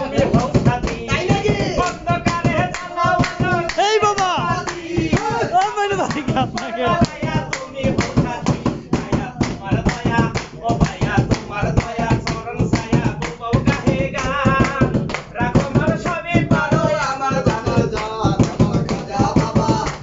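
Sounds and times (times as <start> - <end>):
group hand-clapping: 0.0 - 20.0
hand-drumming on plastic containers: 0.0 - 20.0
man singing folk song: 0.0 - 20.0.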